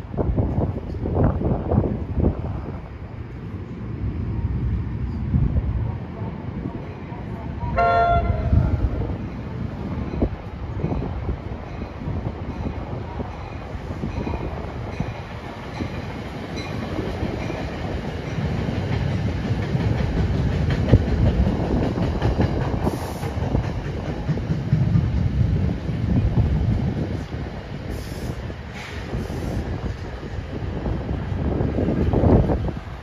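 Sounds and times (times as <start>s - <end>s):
electric train rolling past: 0.0s - 33.0s.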